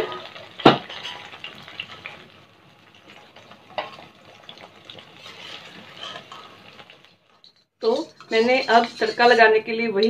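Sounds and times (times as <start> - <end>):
eggplants sizzling in hot oil: 0.0 - 10.0.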